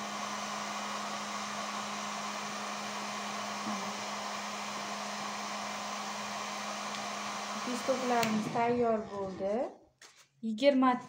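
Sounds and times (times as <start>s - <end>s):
heat gun blowing air: 0.0s - 9.0s.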